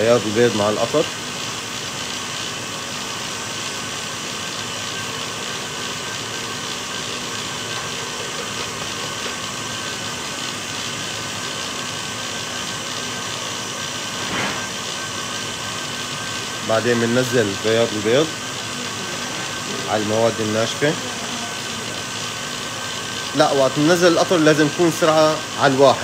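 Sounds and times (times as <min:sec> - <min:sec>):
stand mixer whisking: 0:00.0 - 0:26.0.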